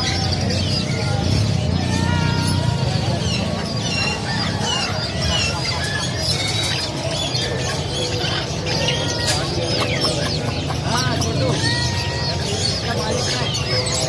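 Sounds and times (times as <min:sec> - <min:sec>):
market background noise: 0:00.0 - 0:14.0
small birds chirping: 0:00.0 - 0:14.0.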